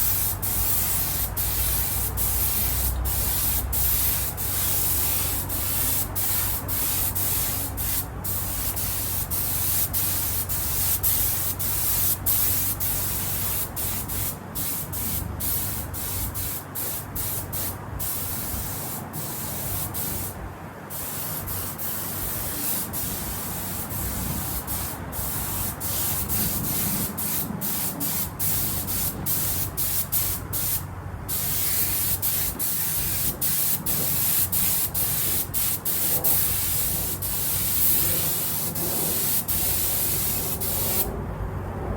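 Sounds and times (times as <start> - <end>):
spray gun hissing: 0.0 - 41.1.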